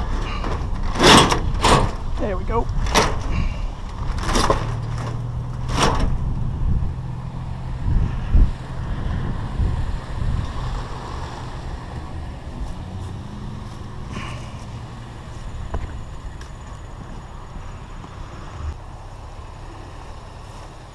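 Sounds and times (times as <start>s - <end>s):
vehicle engine humming: 0.0s - 20.9s.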